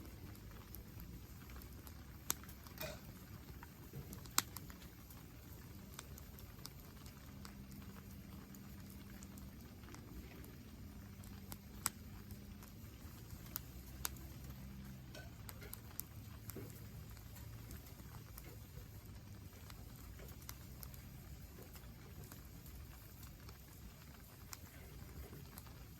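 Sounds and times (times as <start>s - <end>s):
faint low hum: 0.0s - 25.9s
fire pops and snaps: 0.0s - 25.9s
wood fire crackling: 0.0s - 25.9s.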